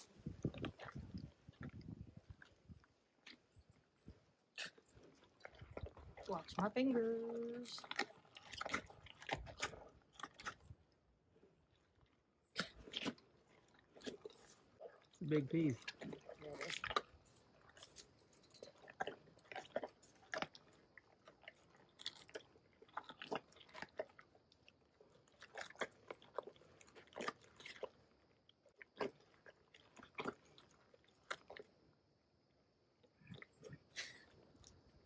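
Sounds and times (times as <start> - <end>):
animal chewing and crunching food: 0.0 - 35.0.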